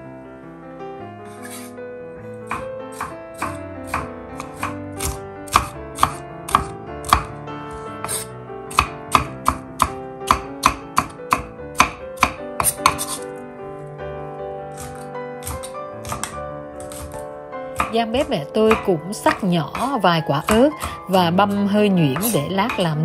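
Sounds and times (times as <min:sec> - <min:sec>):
knife chopping on wooden board: 0:02.4 - 0:13.3, 0:14.7 - 0:23.0.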